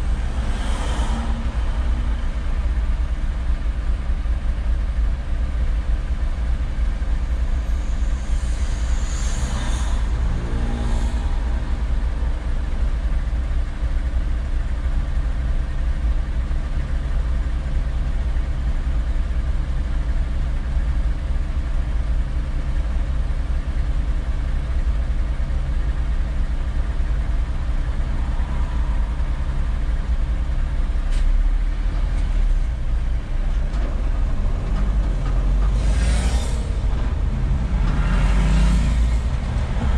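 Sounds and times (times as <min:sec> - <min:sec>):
vehicle engines idling: 0:00.0 - 0:39.9.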